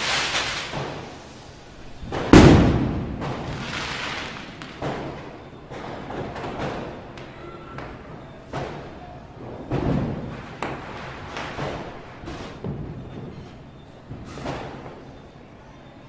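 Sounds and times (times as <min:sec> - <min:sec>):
firecrackers going off: 0:00.0 - 0:15.4.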